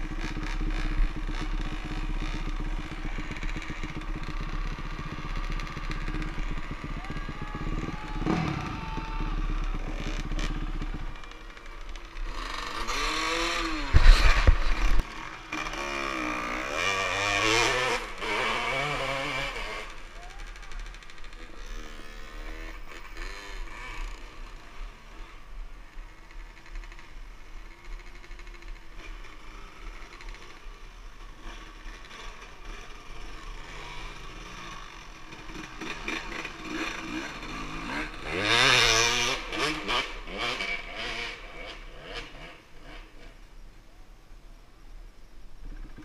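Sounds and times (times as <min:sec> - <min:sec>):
dirt bike engine revving: 0:00.0 - 0:43.4.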